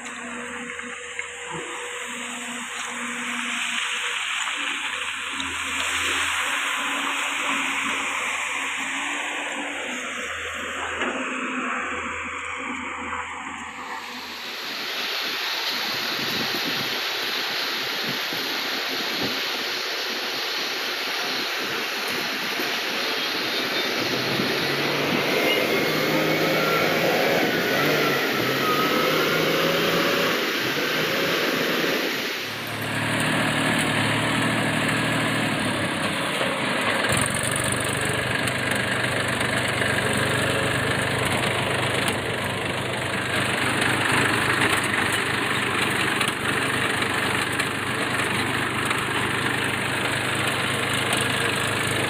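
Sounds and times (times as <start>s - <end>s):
diesel engines running: 0.0s - 52.0s
tractor diesel engine hum: 0.0s - 52.0s.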